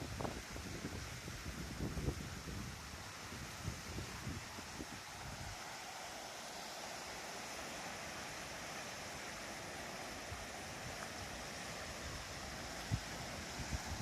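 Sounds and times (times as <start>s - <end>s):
river rushing in flood: 0.0s - 14.0s.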